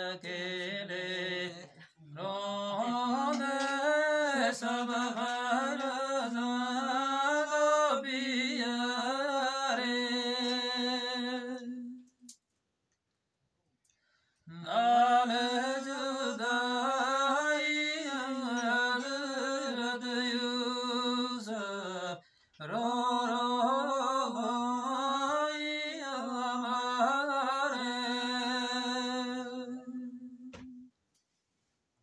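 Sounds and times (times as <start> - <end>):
man chanting: 0.0 - 12.0, 14.5 - 30.8.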